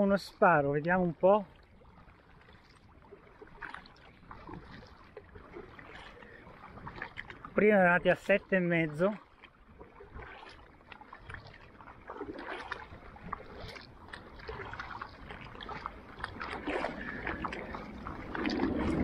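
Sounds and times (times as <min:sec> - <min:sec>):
kayak paddle splashing: 0:00.0 - 0:19.0.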